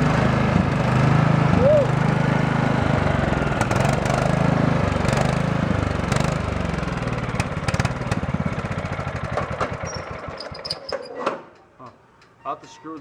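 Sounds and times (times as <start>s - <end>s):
riding mower engine running: 0.0s - 10.9s.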